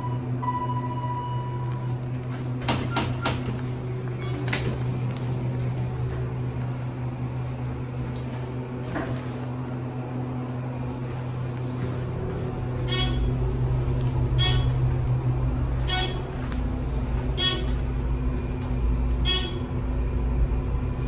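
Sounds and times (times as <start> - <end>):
elevator car low hum: 0.0 - 21.0.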